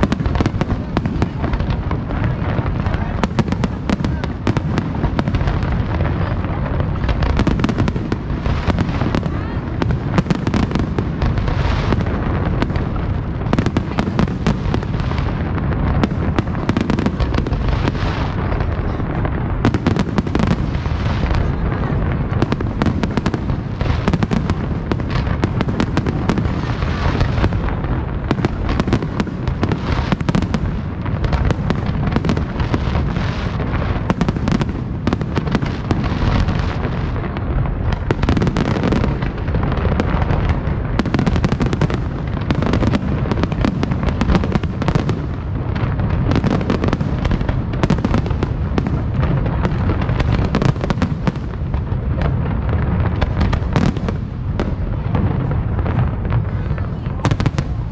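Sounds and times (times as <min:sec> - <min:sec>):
deep rumble of booms: 0:00.0 - 0:57.9
fireworks bangs and crackling: 0:00.0 - 0:57.9.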